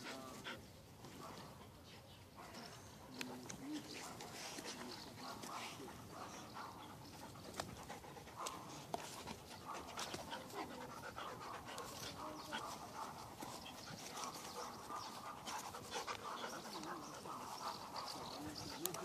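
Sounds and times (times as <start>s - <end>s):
dogs panting: 0.0s - 19.0s.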